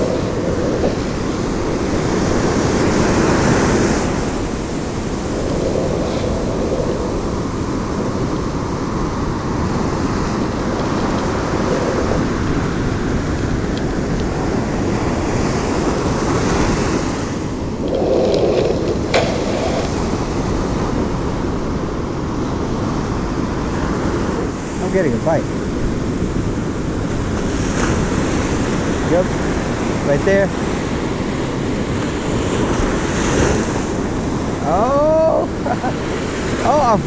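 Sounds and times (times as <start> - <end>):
ocean surf washing: 0.0 - 37.0
wind: 0.0 - 37.0.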